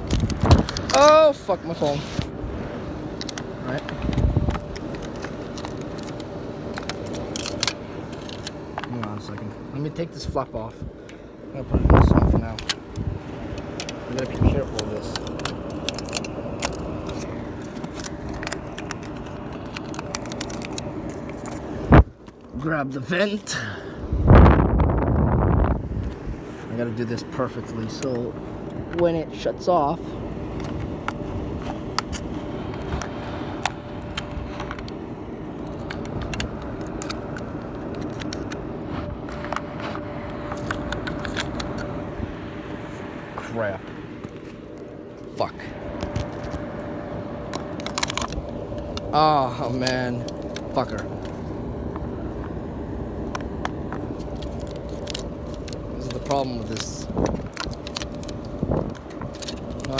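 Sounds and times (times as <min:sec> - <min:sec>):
dryer exhaust air rushing: 0:00.0 - 0:59.9
faint hum: 0:00.0 - 0:59.9.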